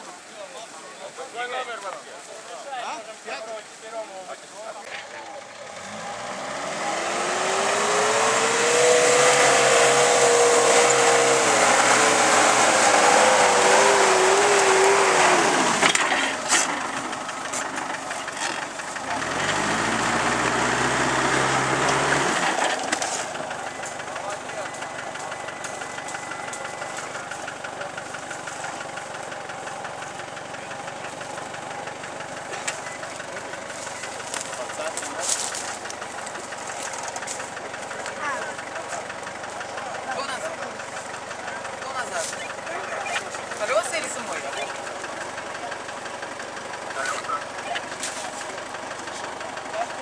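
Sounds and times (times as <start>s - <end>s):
engine revving: 5.4s - 50.0s.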